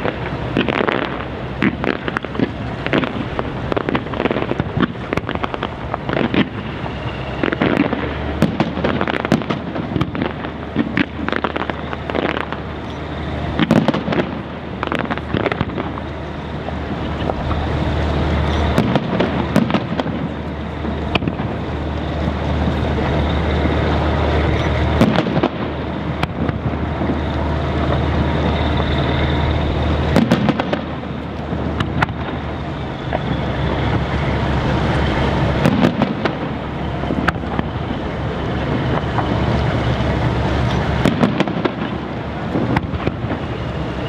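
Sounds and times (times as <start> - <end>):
firework shells bursting: 0.0 - 44.0
low rumble: 0.0 - 44.0.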